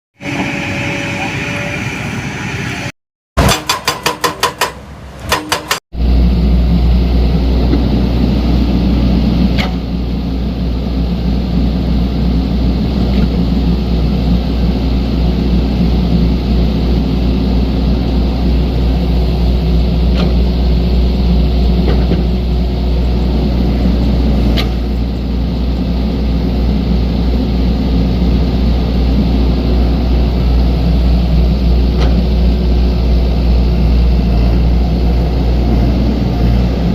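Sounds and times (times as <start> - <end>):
diesel engines rumbling: 0.2 - 36.9.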